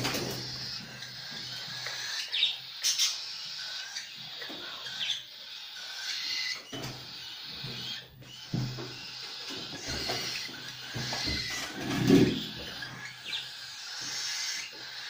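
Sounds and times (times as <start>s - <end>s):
parrot chicks begging calls: 0.0s - 15.0s
small birds chirping: 0.0s - 15.0s.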